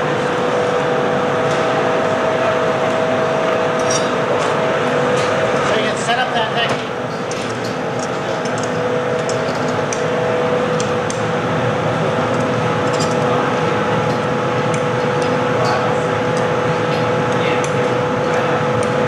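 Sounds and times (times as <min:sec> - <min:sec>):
furnace roar: 0:00.0 - 0:19.0
steady hum: 0:00.0 - 0:19.0.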